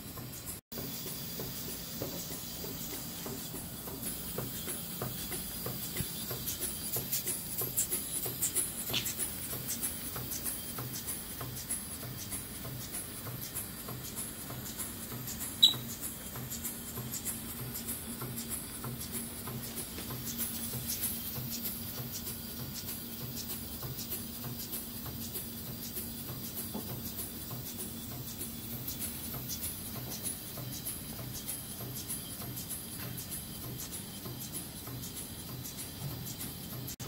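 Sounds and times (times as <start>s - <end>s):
toy steam engine chuffing: 0.0s - 37.0s.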